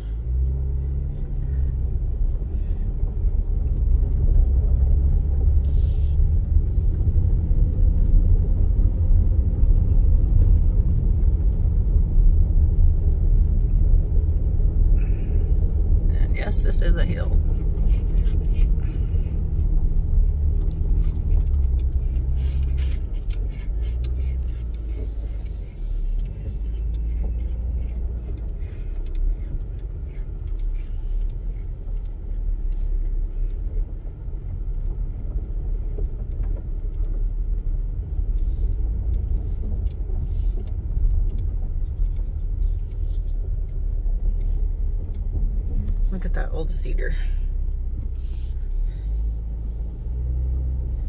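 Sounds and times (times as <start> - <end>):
car engine and road rumble: 0.0 - 51.0.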